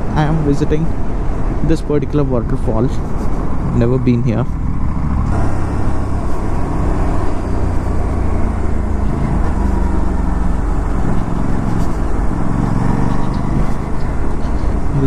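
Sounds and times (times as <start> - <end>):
motorcycle engine cruising: 0.0 - 15.0
riding wind and road noise: 0.0 - 15.0.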